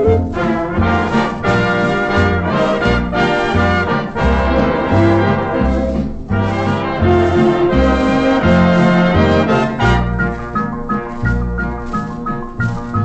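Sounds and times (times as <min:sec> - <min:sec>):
dance orchestra on old record: 0:00.0 - 0:13.0.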